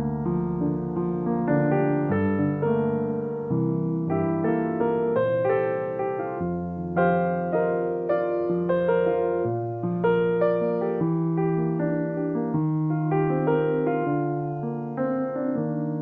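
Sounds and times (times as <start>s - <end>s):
gentle slow piano piece: 0.0s - 16.0s.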